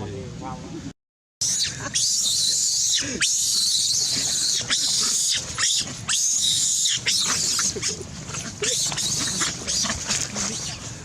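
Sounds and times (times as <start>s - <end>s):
monkeys shrieking: 1.4s - 10.9s.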